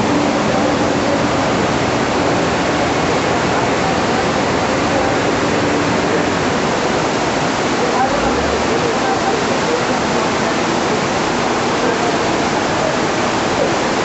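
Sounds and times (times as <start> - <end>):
faint voices: 0.0 - 14.0
rushing flood water: 0.0 - 14.0.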